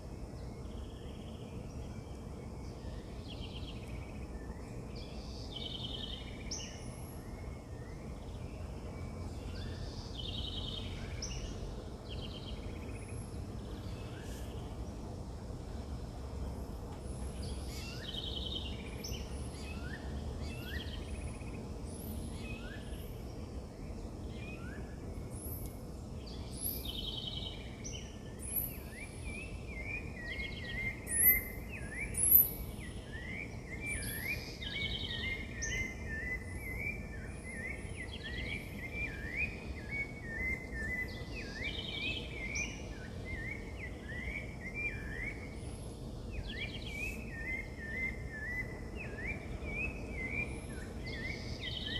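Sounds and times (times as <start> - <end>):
low background noise: 0.0 - 51.9.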